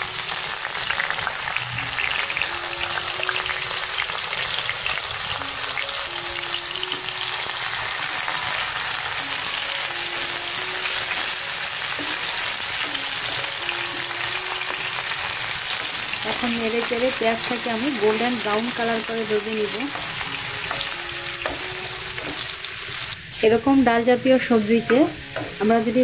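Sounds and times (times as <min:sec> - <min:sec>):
onion and garlic sizzling in oil: 0:00.0 - 0:26.0
soft background melody: 0:00.0 - 0:26.0.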